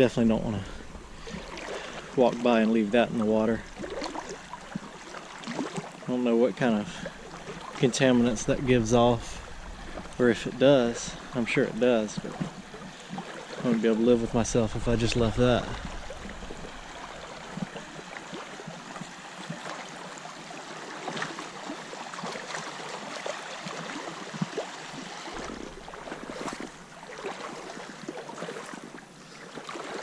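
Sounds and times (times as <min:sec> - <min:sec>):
creek water running: 0:00.0 - 0:30.0
small knocks and splashes: 0:00.0 - 0:30.0.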